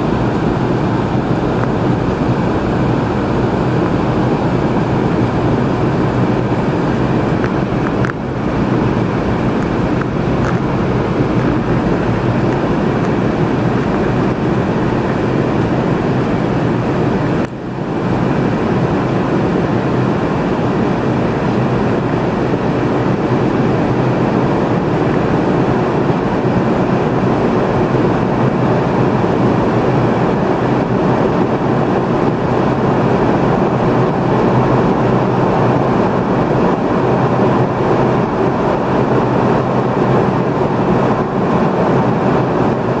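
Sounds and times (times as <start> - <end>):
airflow rushing: 0.0 - 43.0
airliner cabin drone: 0.0 - 43.0.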